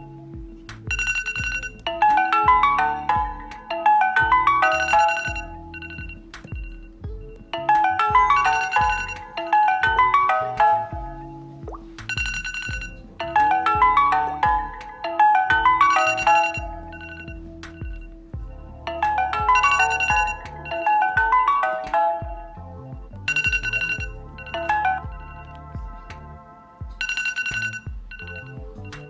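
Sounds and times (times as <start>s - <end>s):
electronic ringtone melody: 0.9s - 18.2s, 19.4s - 21.6s, 23.3s - 25.6s, 27.0s - 29.0s.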